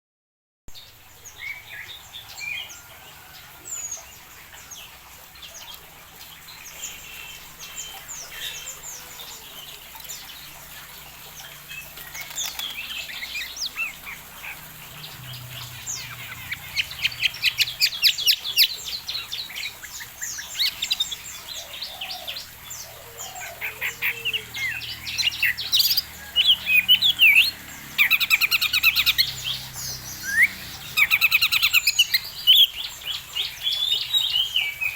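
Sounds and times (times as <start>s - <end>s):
aviary birds chirping and trilling: 0.7s - 34.9s.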